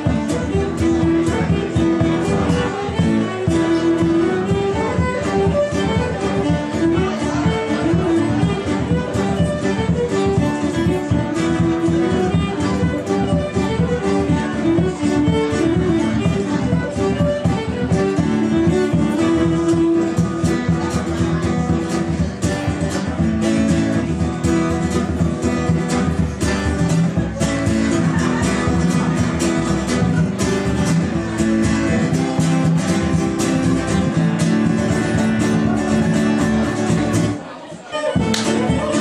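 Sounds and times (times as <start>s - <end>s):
frame drum beat: 0.0s - 37.5s, 38.1s - 39.0s
fiddle: 0.0s - 39.0s
strummed acoustic guitar: 0.0s - 39.0s.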